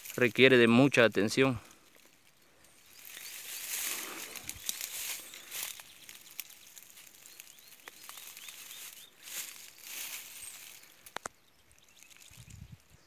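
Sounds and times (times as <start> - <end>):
grass leaves rustling: 0.0 - 13.0
faint high chirps: 2.3 - 13.0.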